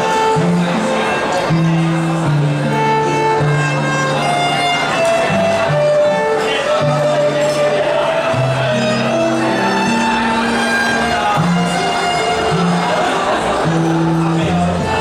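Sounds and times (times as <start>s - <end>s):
violin playing slow melody: 0.0s - 15.0s.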